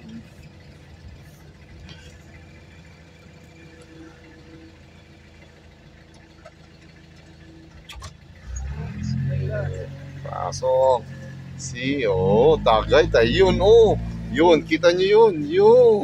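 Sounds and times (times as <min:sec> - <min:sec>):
vehicle engine running low: 0:00.0 - 0:16.0.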